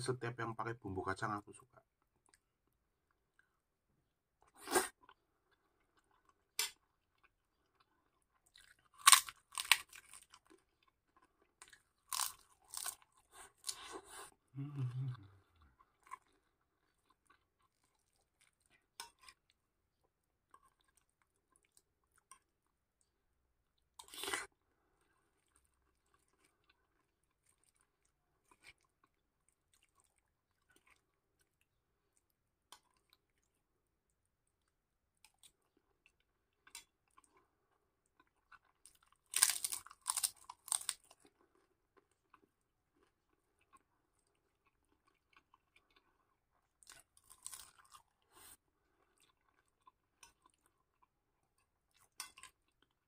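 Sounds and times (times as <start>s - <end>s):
chewing with light crunches: 1.8s - 3.7s, 4.3s - 53.0s.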